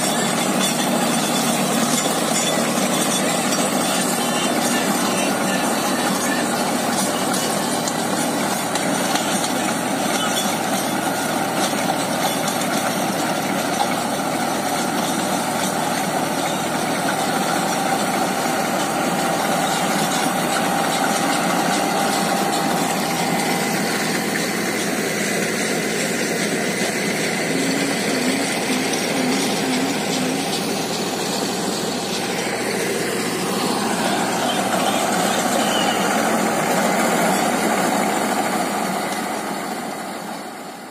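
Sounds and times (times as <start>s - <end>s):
rotavator churning soil: 0.0s - 40.7s
tractor engine running under load: 0.0s - 40.9s.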